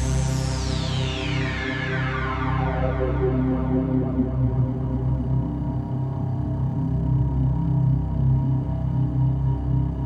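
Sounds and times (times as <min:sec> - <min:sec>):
synthesizer low drone pad: 0:00.0 - 0:10.0.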